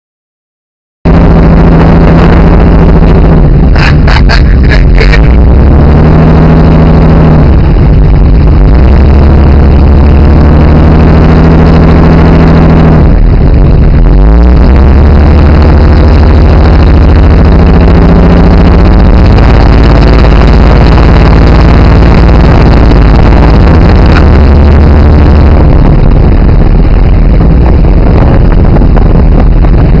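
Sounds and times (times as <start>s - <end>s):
car engine running loudly: 1.0s - 30.0s.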